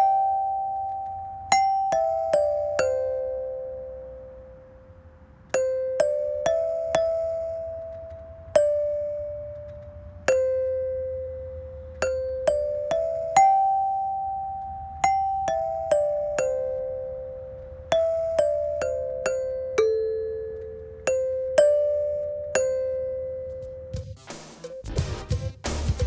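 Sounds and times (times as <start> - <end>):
slow chime melody: 0.0 - 24.0.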